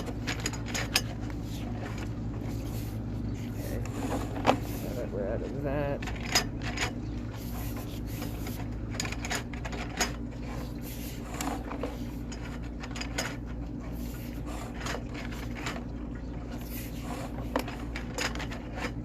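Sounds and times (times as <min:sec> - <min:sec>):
cable scraping and clicking: 0:00.0 - 0:19.0
steady low hum: 0:00.0 - 0:19.0.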